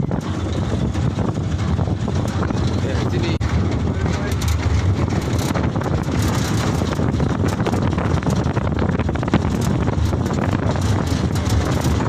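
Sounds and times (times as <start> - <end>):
short rattles: 0.0 - 12.0
truck engine and road rumble: 0.0 - 12.0
wind buffeting microphone: 0.0 - 12.0.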